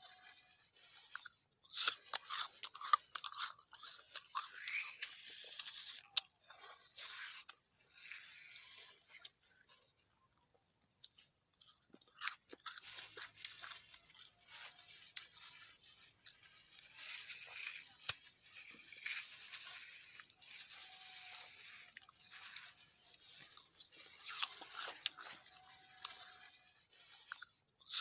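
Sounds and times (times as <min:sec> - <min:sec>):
chewing juicy fruit: 0:00.0 - 0:28.0.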